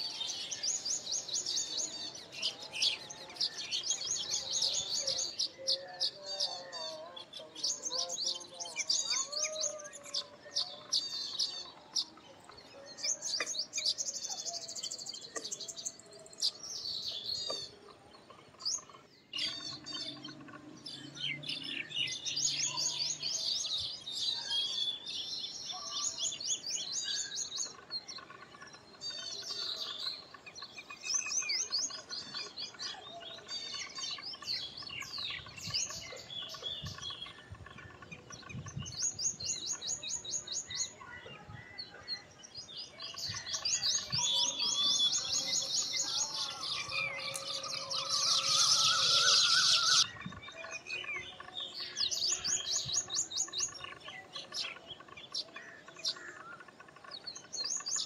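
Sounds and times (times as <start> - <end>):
birds chirping fast: 0.0 - 58.0.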